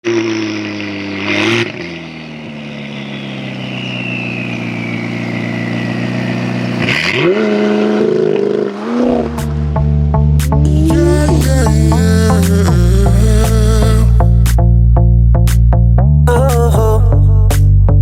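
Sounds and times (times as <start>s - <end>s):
sports car engine running: 0.0s - 15.8s.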